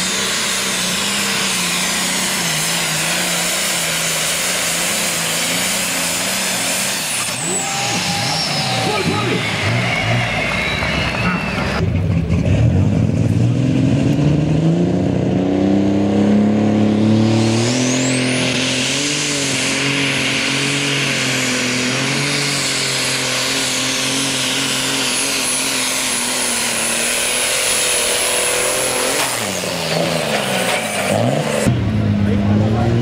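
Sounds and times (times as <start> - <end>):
high whine: 0.0 - 33.0
tractor engine at full throttle: 0.0 - 33.0.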